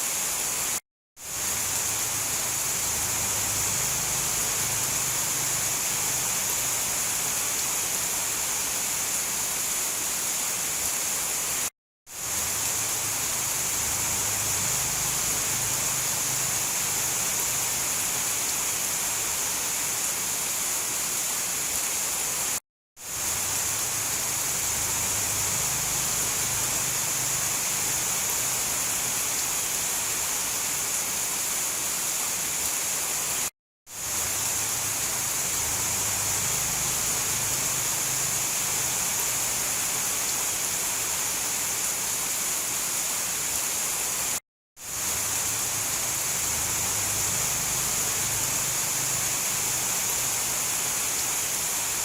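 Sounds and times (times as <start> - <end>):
rain downpour hissing: 0.0 - 52.0.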